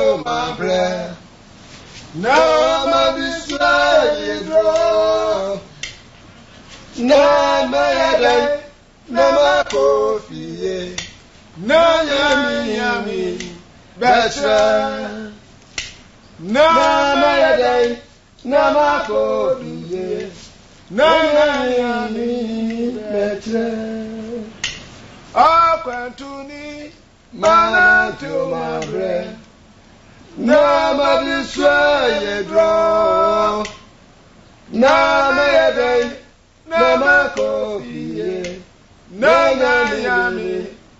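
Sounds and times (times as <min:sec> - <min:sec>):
man singing unaccompanied: 0:00.0 - 0:01.3, 0:02.1 - 0:06.0, 0:06.9 - 0:15.5, 0:16.4 - 0:29.5, 0:30.3 - 0:33.9, 0:34.7 - 0:40.9.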